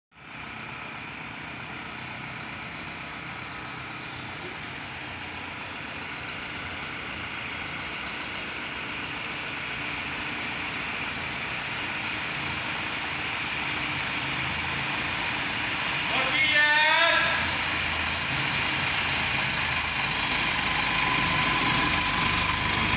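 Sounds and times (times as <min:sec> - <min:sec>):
bus engine running: 0:00.2 - 0:22.9
bus brakes grinding: 0:00.4 - 0:16.5, 0:17.2 - 0:22.9.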